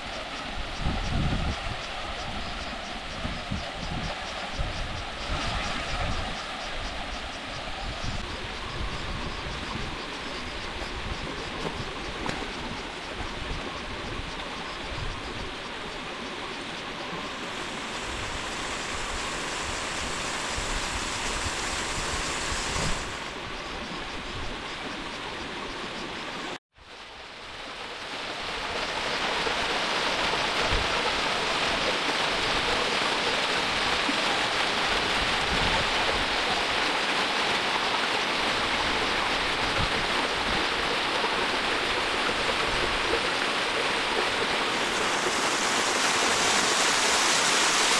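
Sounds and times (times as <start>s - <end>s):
rushing river water: 0.0s - 24.0s, 25.9s - 47.9s.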